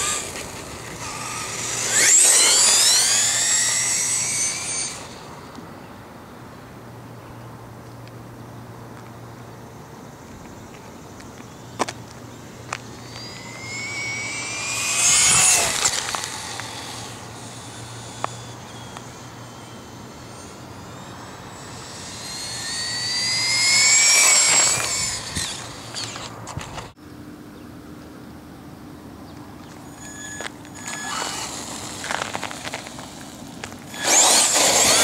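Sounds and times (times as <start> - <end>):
rc truck motor whine: 0.0 - 5.8, 10.0 - 27.0, 29.6 - 35.0.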